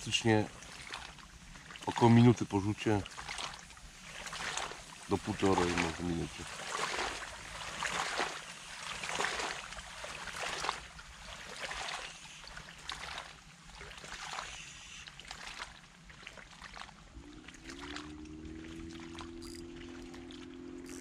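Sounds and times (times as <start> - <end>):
low steady hum: 0.0 - 21.0
river water splashing: 0.0 - 21.0.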